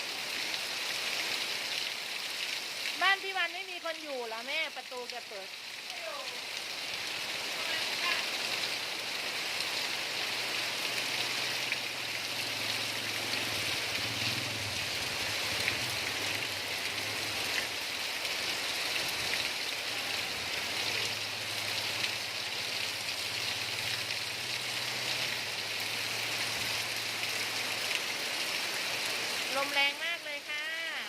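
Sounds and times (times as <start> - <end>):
heavy rain hissing: 0.0 - 31.0.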